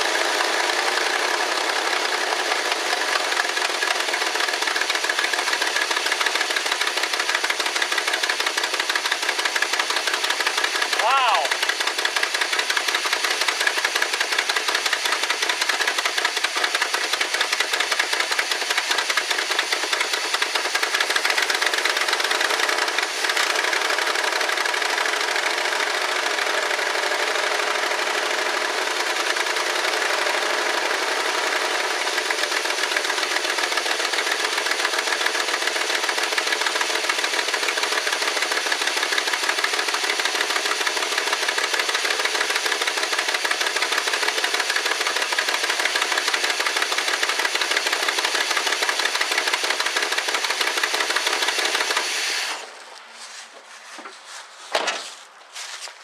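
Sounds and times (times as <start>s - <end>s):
car engine idling with a miss: 0.0s - 52.8s
exhaust leak ticking: 0.4s - 52.0s.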